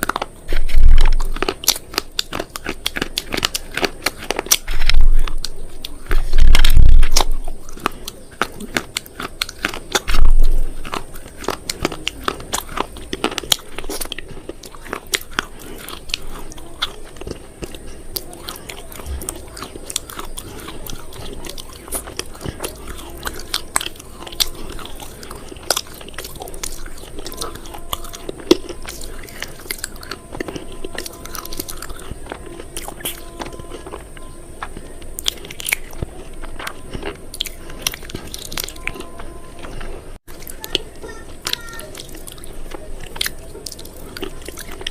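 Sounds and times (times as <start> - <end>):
crunching and chewing crisp food: 0.0 - 44.9.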